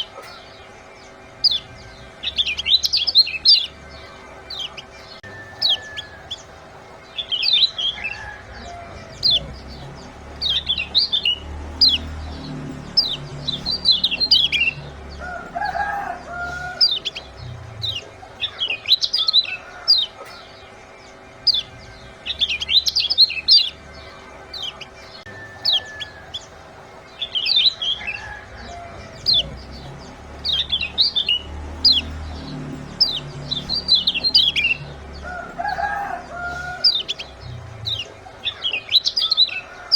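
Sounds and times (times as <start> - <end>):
chicken-like clucking call: 0.0 - 39.9
high bird chirps: 0.0 - 39.9.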